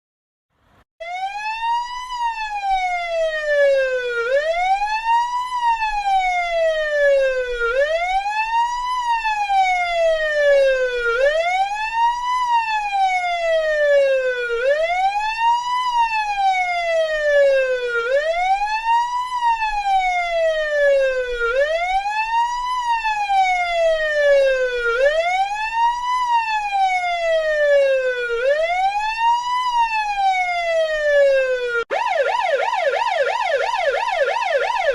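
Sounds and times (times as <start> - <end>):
police siren wailing: 1.0 - 34.9.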